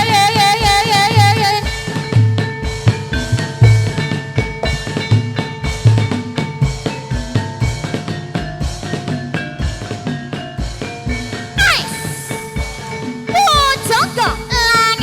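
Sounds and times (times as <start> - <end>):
drum strikes: 0.0 - 15.0
ringing held notes: 0.0 - 15.0.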